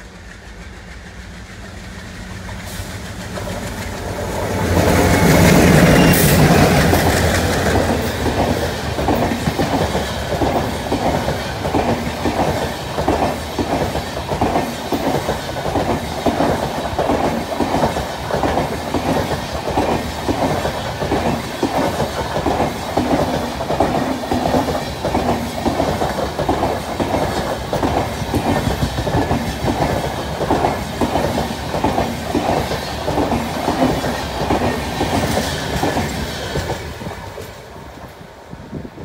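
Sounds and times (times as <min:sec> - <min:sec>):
train wheels clattering over rail joints: 0:00.0 - 0:37.7.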